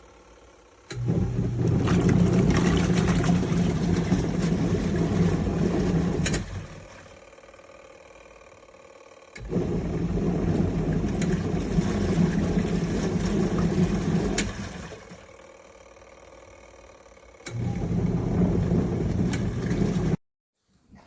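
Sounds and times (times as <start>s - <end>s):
washing machine motor humming: 0.0s - 20.2s.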